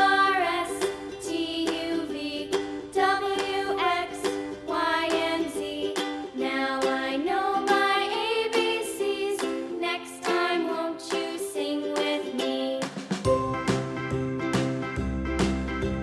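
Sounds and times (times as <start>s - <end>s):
cheerful children's music: 0.0s - 16.0s
plucked ukulele-like notes: 0.0s - 16.0s.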